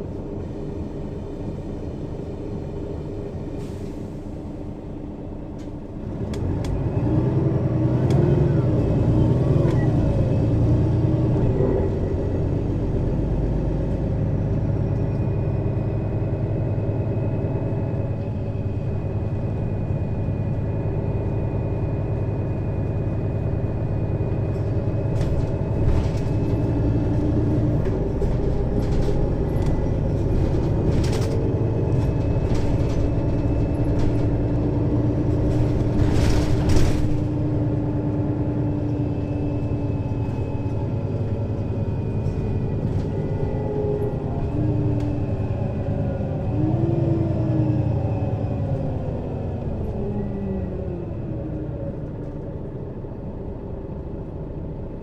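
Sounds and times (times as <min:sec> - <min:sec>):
bus engine pulling away: 0:00.0 - 0:55.0.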